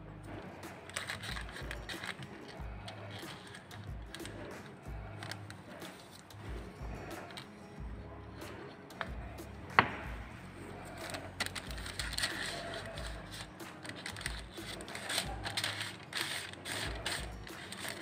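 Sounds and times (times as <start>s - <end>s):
paper crinkling and rustling: 0.3s - 7.7s, 8.3s - 18.0s.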